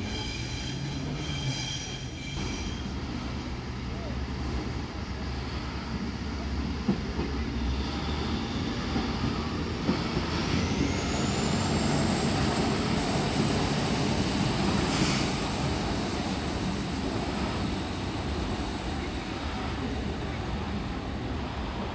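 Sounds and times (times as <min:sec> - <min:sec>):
train rumble: 0:00.0 - 0:21.9.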